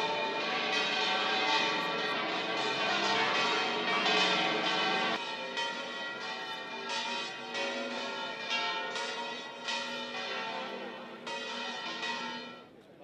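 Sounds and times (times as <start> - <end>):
church bells ringing: 0.0 - 12.8.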